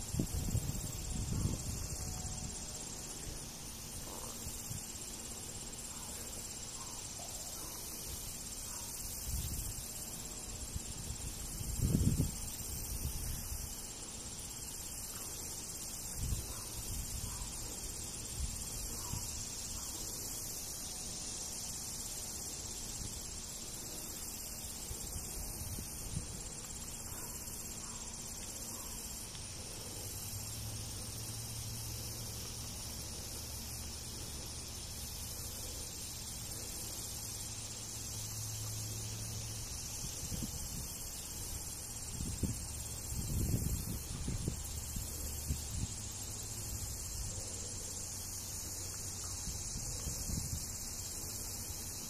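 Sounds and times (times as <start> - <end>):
insects droning: 0.0 - 52.0.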